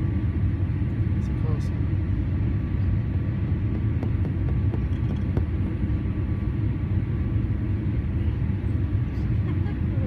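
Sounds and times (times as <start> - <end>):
airplane cabin rumble: 0.0 - 10.0.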